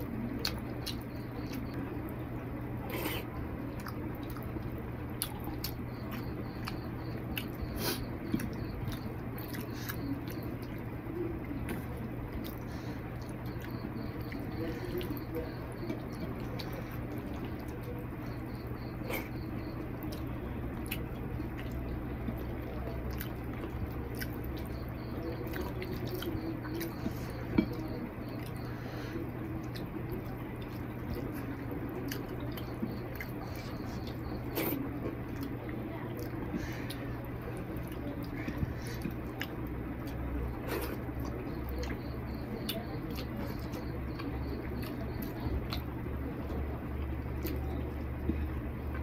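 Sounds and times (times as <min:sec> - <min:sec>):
chewing: 0:00.0 - 0:49.0
steady low hum: 0:00.0 - 0:49.0.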